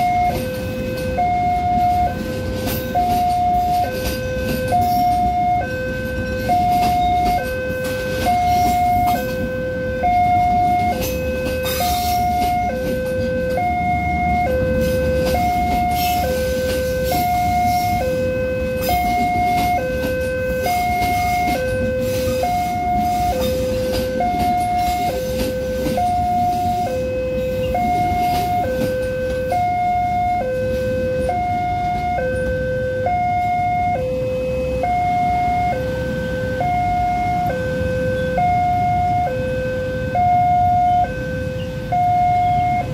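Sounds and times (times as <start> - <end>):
level crossing alarm two-note tone: 0.0 - 42.9
passenger train rumbling past: 0.0 - 42.9.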